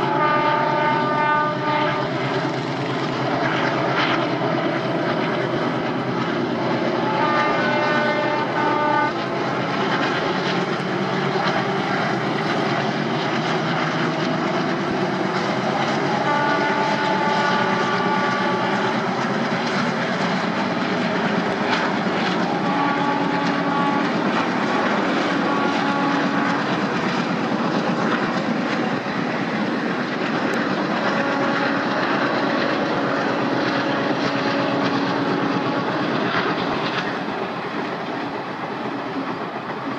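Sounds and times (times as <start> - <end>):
diesel locomotive engines droning: 0.0 - 39.9.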